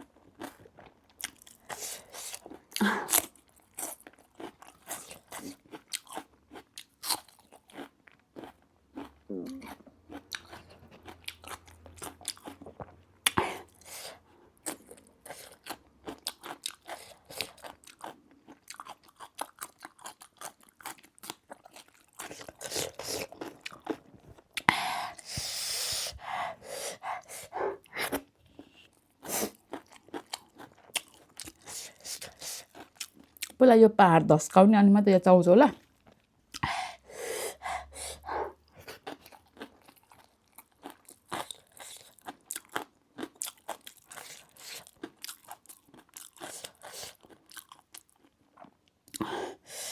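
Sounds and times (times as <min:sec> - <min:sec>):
crunching and chewing snack: 0:00.0 - 0:25.6, 0:27.8 - 0:33.6, 0:38.7 - 0:49.6.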